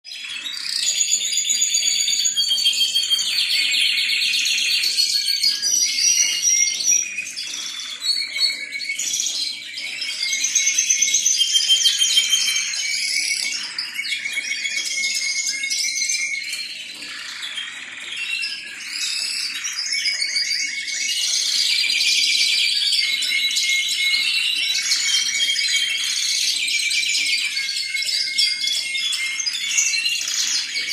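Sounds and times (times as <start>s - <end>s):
canary singing trills: 0.0s - 30.9s.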